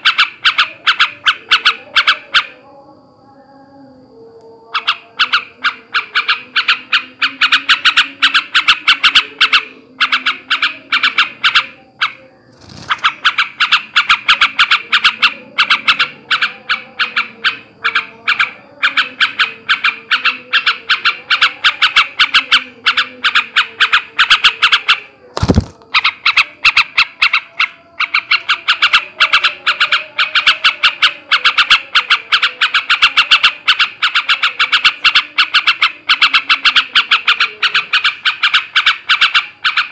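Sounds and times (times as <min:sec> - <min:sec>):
bird chattering harsh notes: 0:04.8 - 0:39.9.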